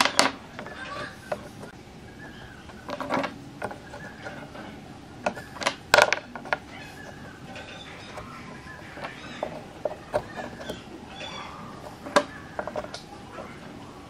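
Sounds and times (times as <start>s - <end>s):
sharp clicks and knocks: 0.0s - 13.1s.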